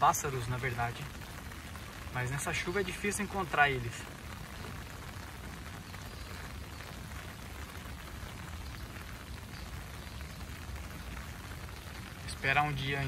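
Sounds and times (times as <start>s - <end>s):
rain on foliage: 0.0s - 13.0s.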